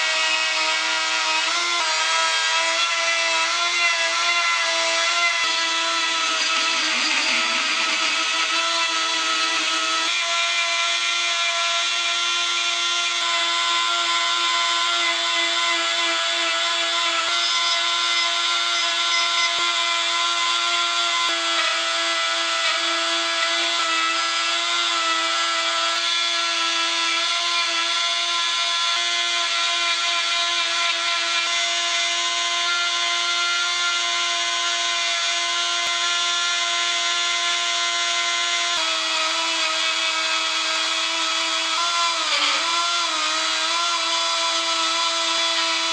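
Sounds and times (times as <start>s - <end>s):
burr grinding wood: 0.0s - 45.9s
rotary carving tool whining: 0.0s - 45.9s.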